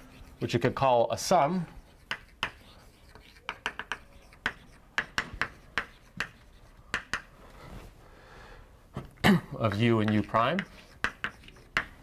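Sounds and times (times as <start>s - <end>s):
chalk tapping and scratching: 0.0s - 7.4s, 9.7s - 12.0s.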